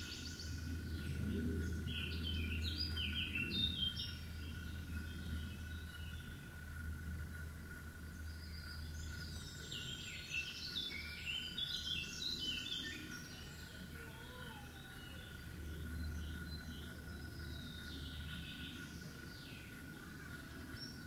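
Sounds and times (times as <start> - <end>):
faint high whine: 0.0 - 21.0
low hum: 0.0 - 21.0
songbird singing: 0.0 - 21.0.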